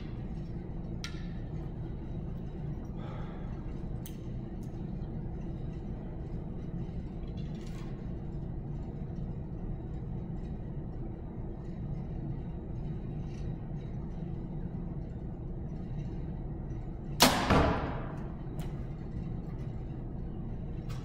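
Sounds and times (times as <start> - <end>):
low room rumble: 0.0 - 21.0.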